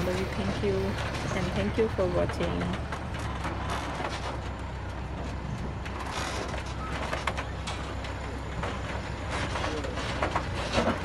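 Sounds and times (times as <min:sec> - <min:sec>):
wooden wagon rattling and clanking: 0:00.0 - 0:11.0.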